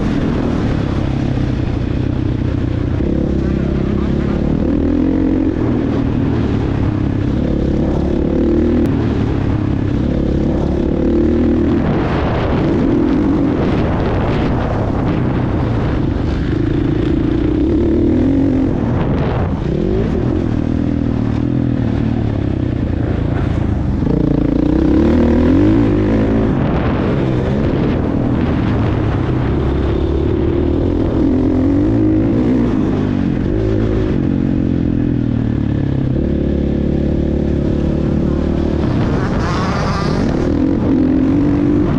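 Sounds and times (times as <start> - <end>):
motocross bike engine revving: 2.7 - 35.0, 35.9 - 41.9.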